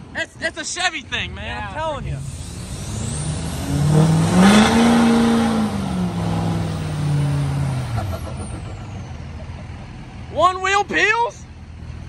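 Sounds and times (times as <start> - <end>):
diesel engine revving: 0.8 - 12.0.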